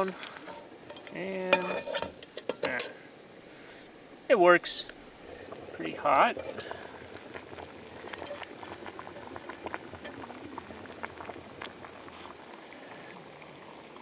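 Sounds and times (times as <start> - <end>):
water boiling in a pot: 0.0 - 14.0.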